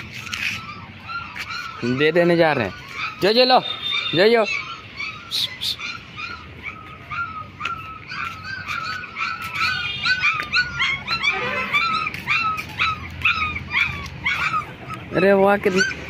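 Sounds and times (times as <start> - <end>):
puppy whimpering and squealing: 0.0 - 16.0.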